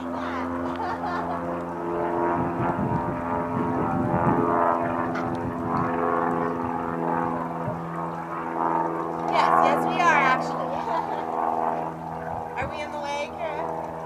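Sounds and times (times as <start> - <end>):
propeller airplane engine droning: 0.0 - 14.0.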